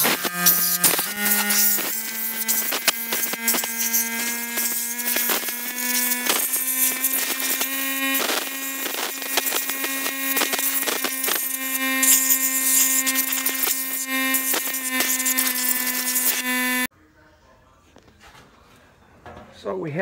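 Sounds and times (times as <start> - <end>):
low buzz: 0.0 - 16.9.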